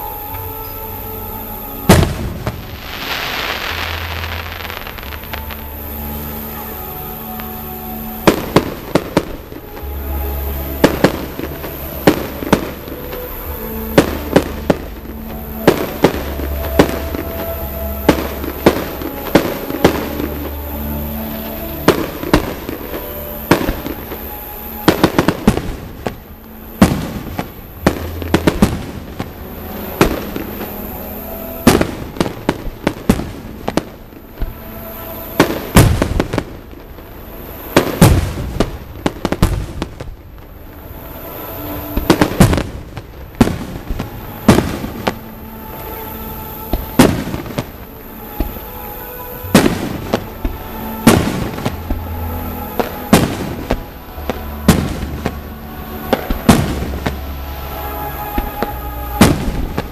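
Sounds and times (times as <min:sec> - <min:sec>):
fireworks bangs: 0:00.0 - 0:59.9
music: 0:00.0 - 0:59.9.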